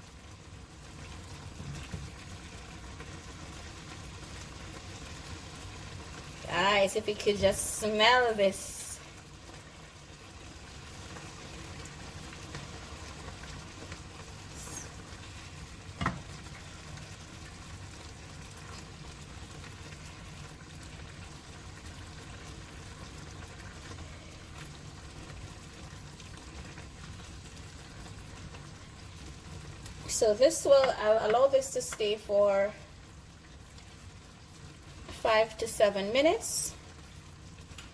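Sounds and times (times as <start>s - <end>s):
stew sizzling and bubbling: 0.0s - 37.9s.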